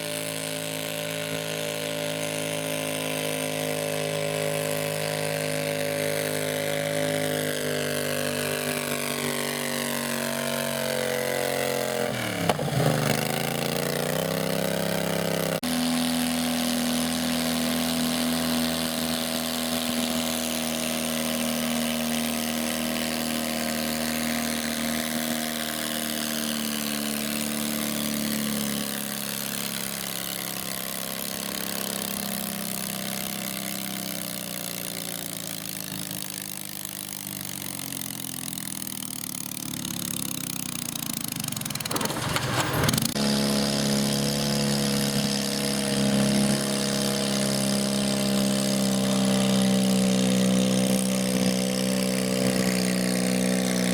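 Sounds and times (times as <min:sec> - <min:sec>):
garden tractor engine running: 0:00.0 - 0:53.9.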